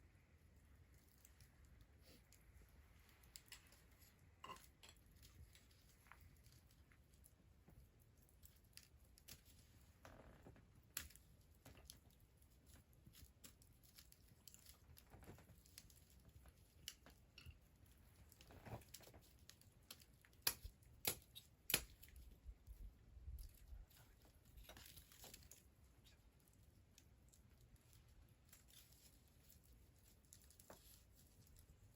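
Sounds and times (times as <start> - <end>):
wood fire crackling: 0.1 - 31.9.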